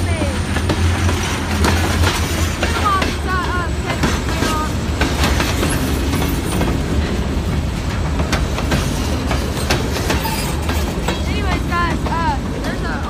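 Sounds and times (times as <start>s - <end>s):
train rumbling past: 0.0s - 13.0s
wheels clacking over rail joints: 0.0s - 13.0s.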